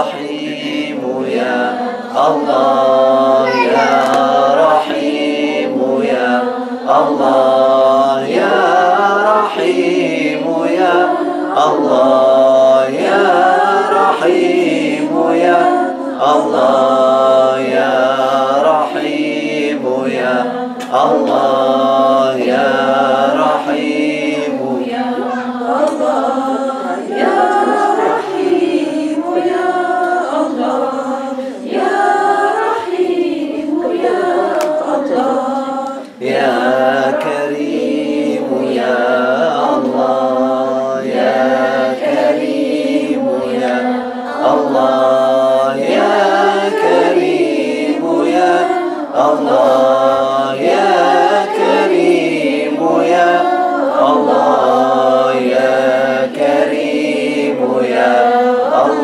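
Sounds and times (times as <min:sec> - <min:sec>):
group chanting a melody: 0:00.0 - 0:59.0.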